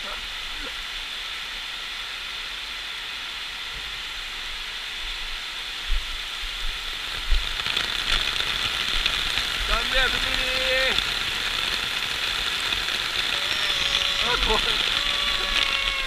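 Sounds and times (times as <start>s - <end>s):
heavy rain on wet ground: 0.0s - 16.0s.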